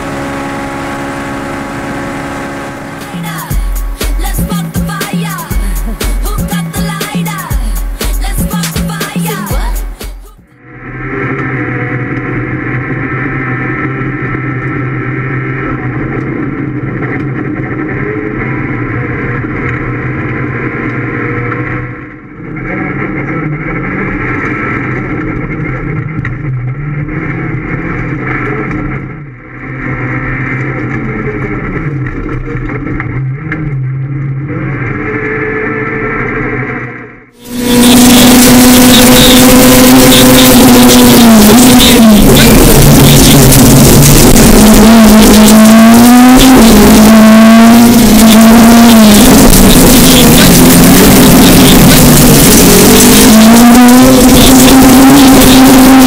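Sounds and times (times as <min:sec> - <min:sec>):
rally car engine revving: 0:00.0 - 0:10.0, 0:10.6 - 0:56.0.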